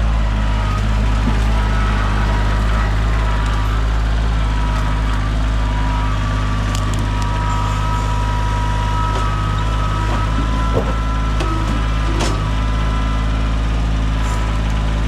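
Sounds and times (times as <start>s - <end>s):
heavy equipment engine running: 0.0s - 15.0s
high whine: 0.0s - 15.0s.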